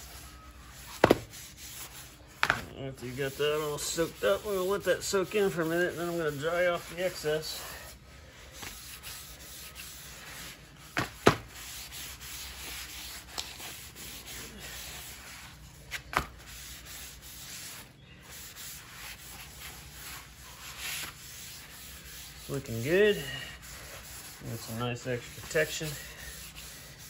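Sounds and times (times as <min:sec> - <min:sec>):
rag scrubbing wood: 0:00.8 - 0:27.0.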